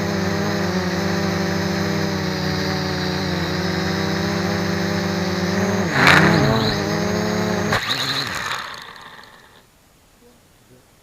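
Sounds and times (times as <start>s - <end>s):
quadcopter propellers buzzing: 0.0s - 9.6s.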